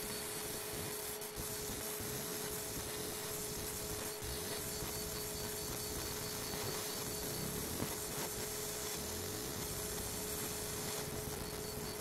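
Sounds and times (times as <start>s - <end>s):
laser engraver hissing and humming: 0.0s - 12.0s.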